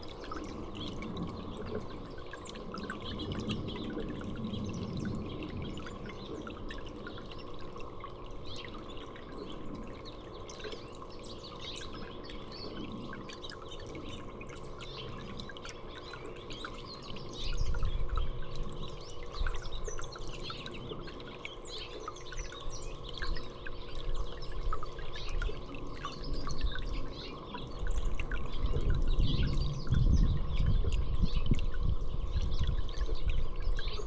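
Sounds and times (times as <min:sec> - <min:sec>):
small birds chirping: 0:00.0 - 0:34.0
water trickling: 0:00.0 - 0:34.0.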